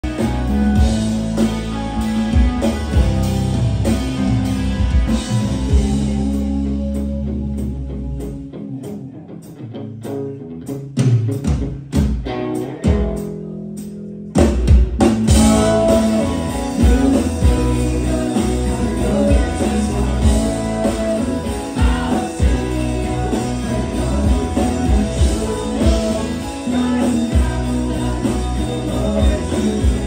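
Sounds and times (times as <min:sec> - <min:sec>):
rock band playing live: 0:00.0 - 0:30.0.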